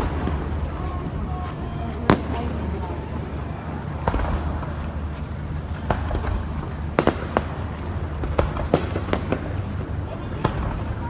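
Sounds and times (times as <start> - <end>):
fireworks popping and cracking: 0.0 - 1.3, 1.9 - 11.0
steady low rumble: 0.0 - 11.0.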